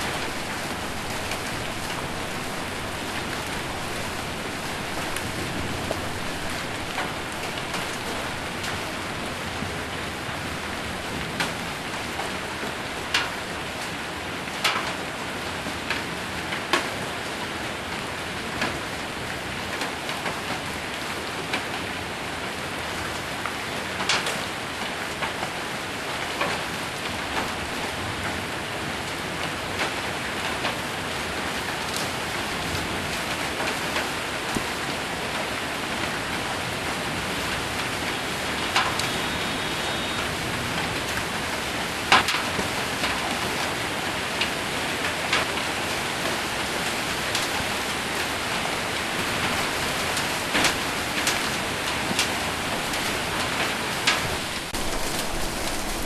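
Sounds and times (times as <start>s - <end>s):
hailstones hitting roof: 0.0s - 15.0s, 25.1s - 56.0s
heavy rain on metal roof: 0.0s - 56.0s.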